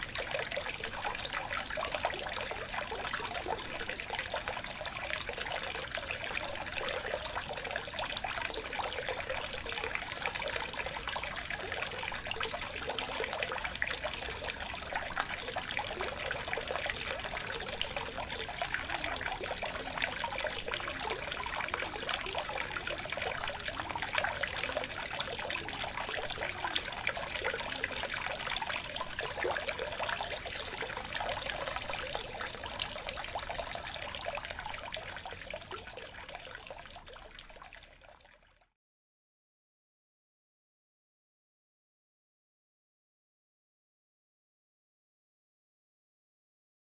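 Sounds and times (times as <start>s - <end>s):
aquarium water trickling: 0.0s - 38.5s.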